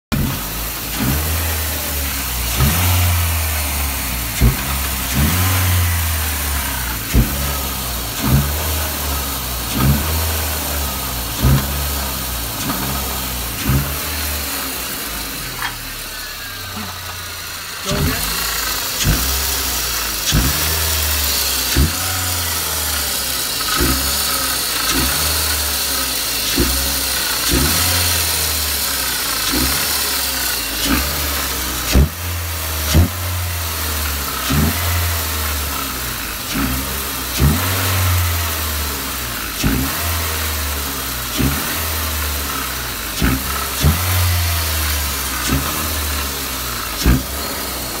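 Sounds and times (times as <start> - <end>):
car engine revving up and down: 0.0 - 48.0.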